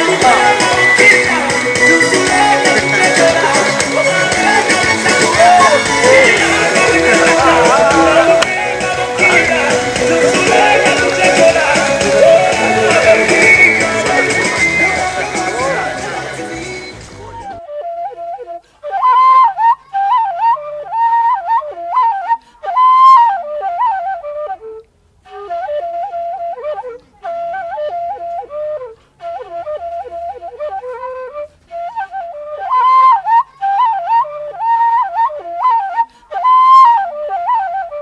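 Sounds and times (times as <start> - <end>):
solo flute melody: 0.0 - 38.0.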